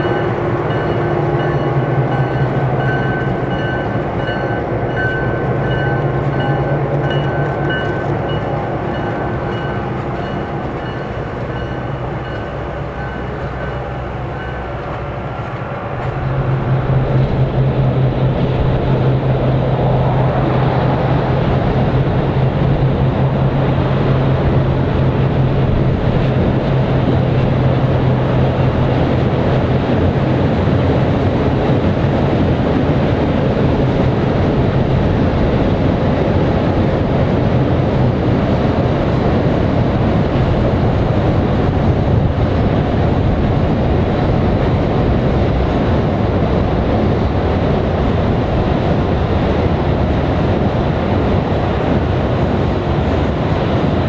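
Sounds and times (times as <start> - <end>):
broad rushing noise: 0.0 - 54.0
diesel locomotive engine drone: 0.0 - 54.0
train cars rolling by: 0.0 - 54.0.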